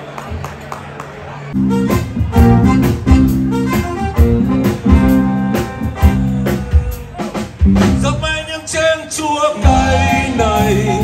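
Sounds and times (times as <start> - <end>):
live band playing upbeat song: 1.5 - 11.0.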